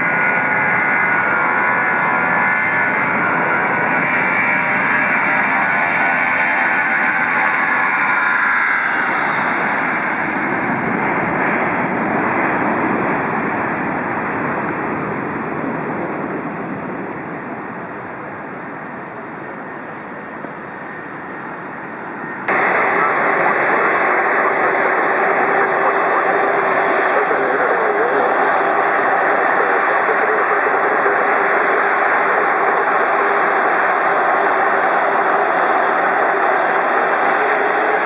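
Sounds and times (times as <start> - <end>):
jet engine roar: 0.0 - 38.0.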